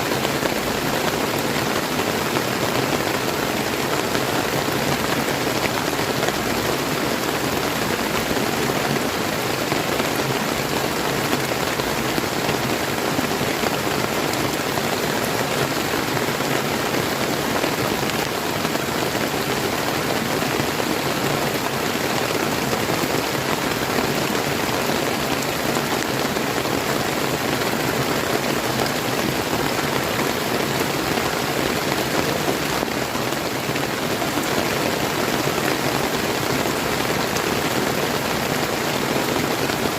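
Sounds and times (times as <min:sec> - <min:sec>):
river stream rushing: 0:00.0 - 0:39.9
steady rain falling: 0:00.0 - 0:39.9.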